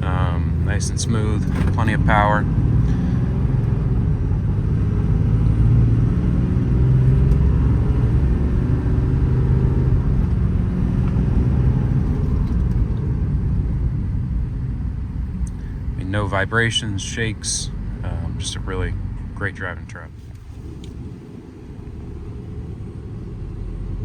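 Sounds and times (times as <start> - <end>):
diesel truck engine drone: 0.0 - 24.0
road noise: 0.0 - 24.0.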